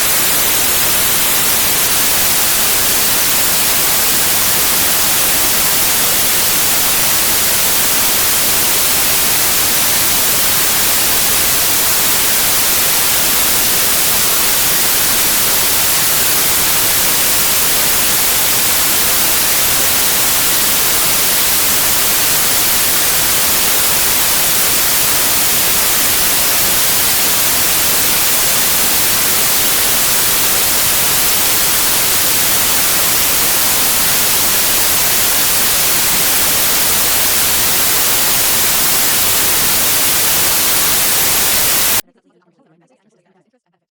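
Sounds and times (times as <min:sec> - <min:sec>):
white noise hiss: 0:00.0 - 0:42.0.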